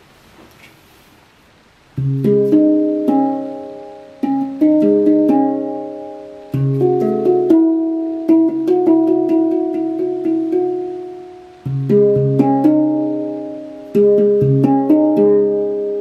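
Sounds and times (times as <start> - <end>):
handpan notes ringing: 2.0 - 16.0.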